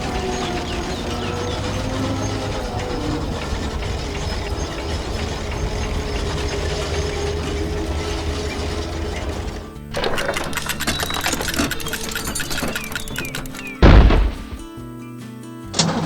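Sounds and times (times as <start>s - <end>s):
machine motor rumble: 0.0s - 14.8s
mechanical clatter: 0.0s - 14.8s, 15.8s - 16.0s.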